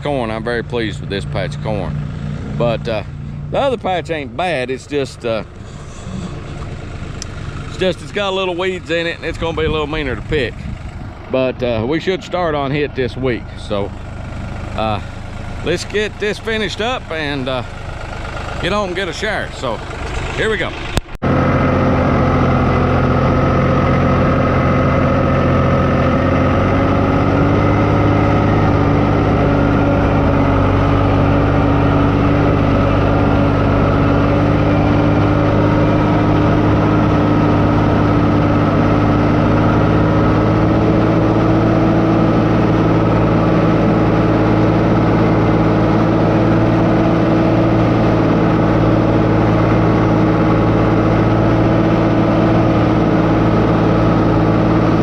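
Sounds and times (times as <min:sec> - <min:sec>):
crop sprayer engine running: 0:00.0 - 0:55.0.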